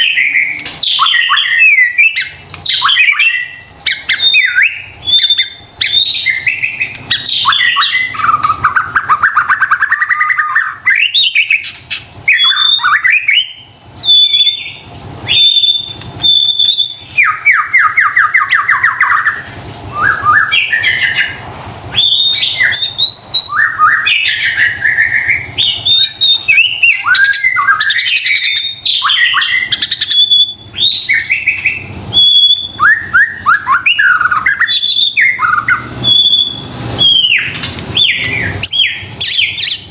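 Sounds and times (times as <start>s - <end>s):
songbird singing whistled notes: 0.0s - 39.9s.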